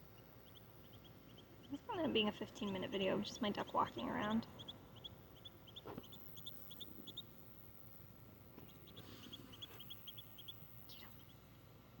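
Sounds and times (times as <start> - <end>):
duckling peeping: 0.0 - 7.6, 8.6 - 11.5.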